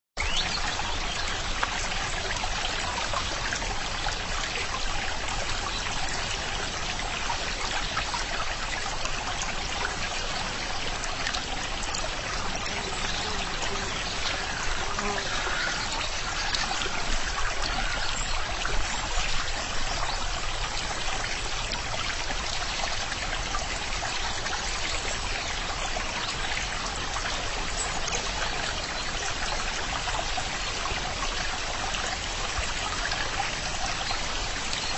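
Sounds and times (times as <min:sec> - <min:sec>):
stream water trickling: 0:00.2 - 0:34.9.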